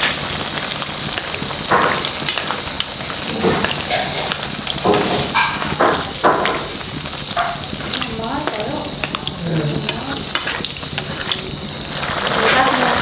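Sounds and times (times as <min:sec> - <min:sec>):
stew simmering hiss: 0:00.0 - 0:13.0.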